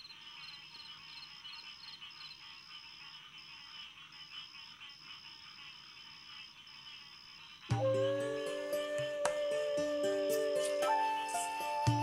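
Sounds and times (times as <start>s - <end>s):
crickets chirping: 0.0s - 12.0s
soft hiss of insects: 0.0s - 12.0s.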